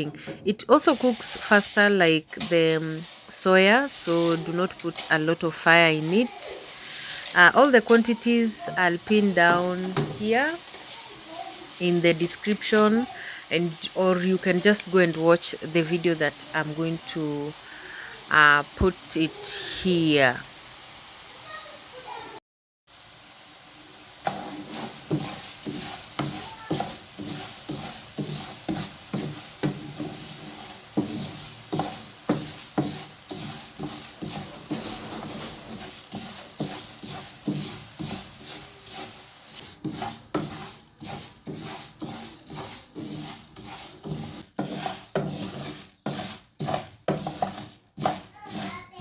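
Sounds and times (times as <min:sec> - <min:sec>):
grains scraped in a hot pan: 0:00.0 - 0:20.6, 0:24.0 - 0:49.0
faint sizzle: 0:00.0 - 0:49.0.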